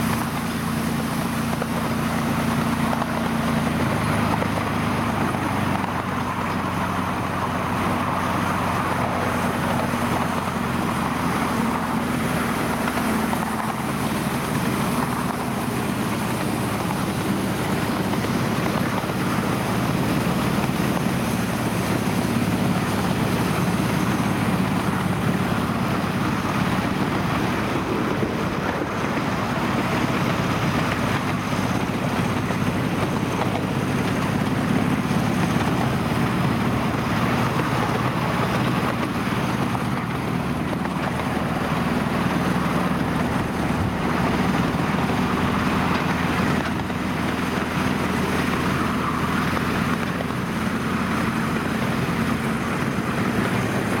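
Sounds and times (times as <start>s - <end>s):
diesel locomotive engine drone: 0.0s - 54.0s
train running noise: 0.0s - 54.0s
wind buffeting microphone: 0.0s - 54.0s.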